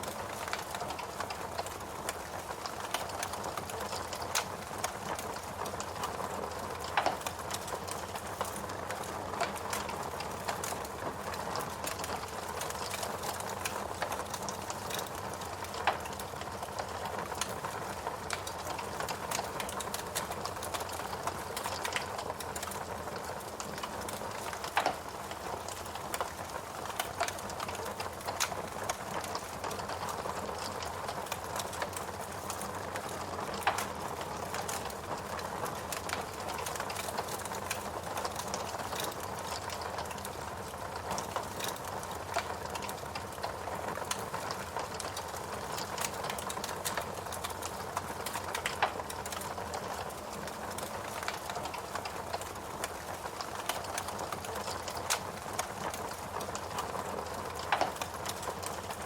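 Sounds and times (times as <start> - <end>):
logs burning with crackles: 0.0 - 59.0.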